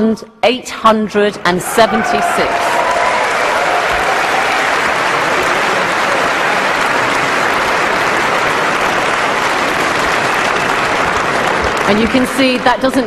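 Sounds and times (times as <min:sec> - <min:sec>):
large audience applauding: 0:02.0 - 0:13.0.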